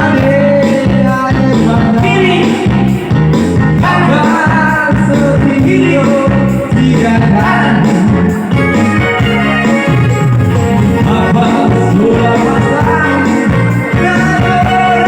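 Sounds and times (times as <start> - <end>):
heavy steady bass line: 0.0 - 15.0
loud music with singing: 0.0 - 15.0.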